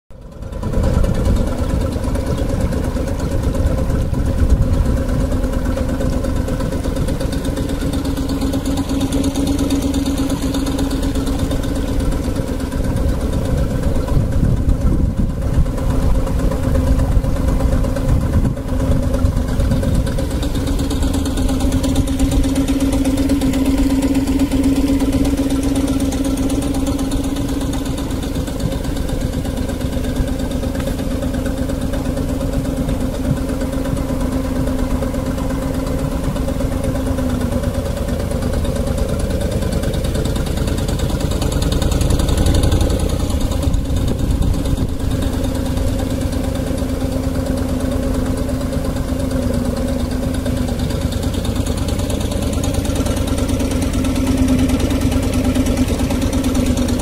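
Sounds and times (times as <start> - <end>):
motorboat engine droning: 0.1 - 57.0.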